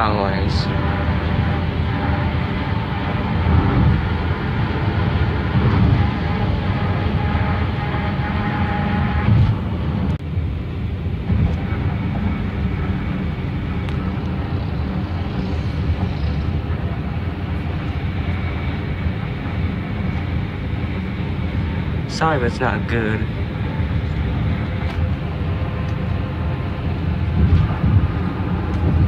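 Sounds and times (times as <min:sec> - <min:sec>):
car tyre and road noise: 0:00.0 - 0:29.0.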